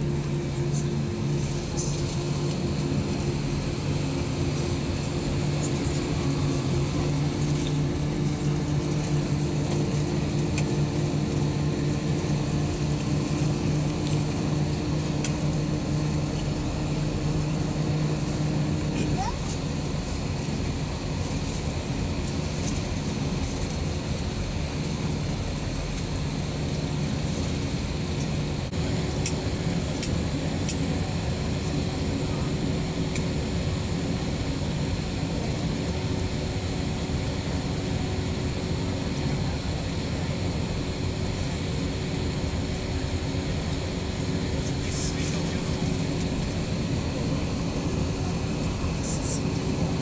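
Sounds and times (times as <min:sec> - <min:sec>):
jet engines low rumble: 0:00.0 - 0:50.0.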